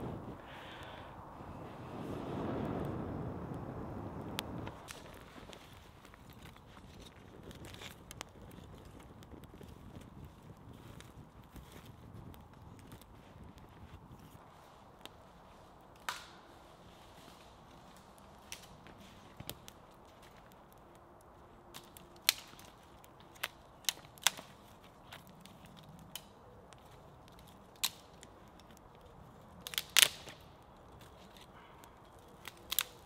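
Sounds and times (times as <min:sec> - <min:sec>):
dry sticks cracking and snapping: 0:04.2 - 0:33.0.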